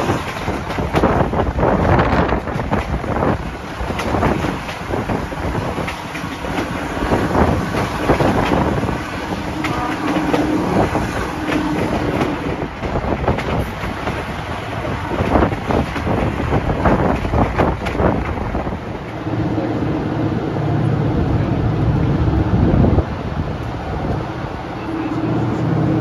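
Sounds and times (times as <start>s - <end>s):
diesel locomotive engines: 0.0s - 26.0s.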